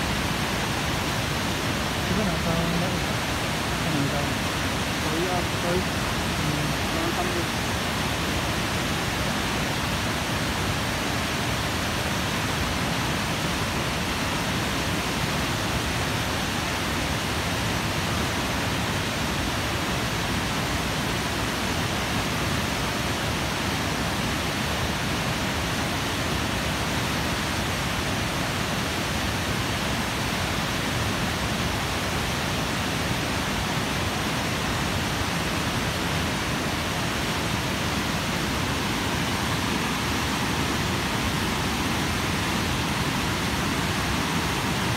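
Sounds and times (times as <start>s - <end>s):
water rushing over dam spillway: 0.0s - 44.9s.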